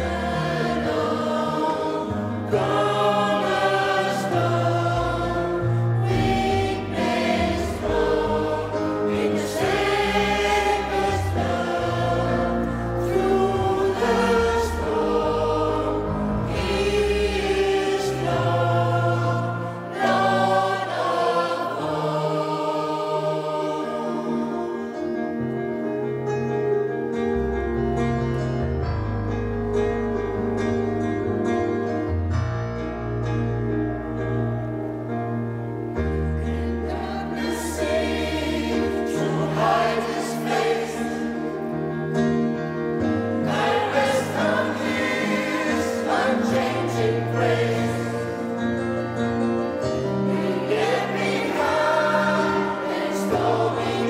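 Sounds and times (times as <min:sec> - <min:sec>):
gospel choir singing: 0:00.0 - 0:25.9, 0:34.1 - 0:54.0.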